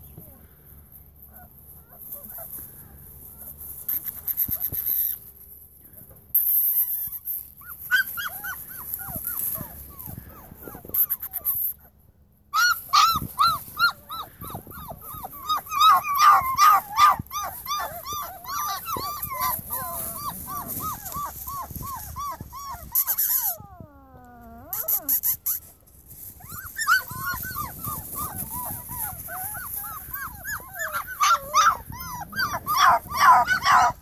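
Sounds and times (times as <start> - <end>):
puppies whimpering and yipping: 1.3 - 5.2, 6.8 - 11.9, 12.6 - 34.0.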